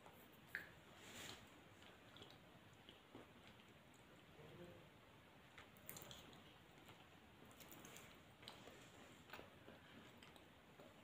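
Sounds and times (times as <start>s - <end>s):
person chewing food: 0.0s - 4.4s, 5.4s - 11.0s.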